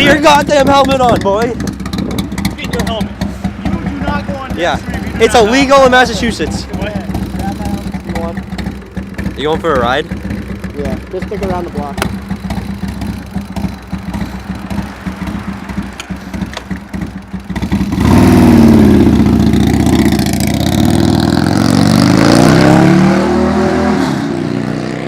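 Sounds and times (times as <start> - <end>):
motorcycle engine: 0.0 - 25.0.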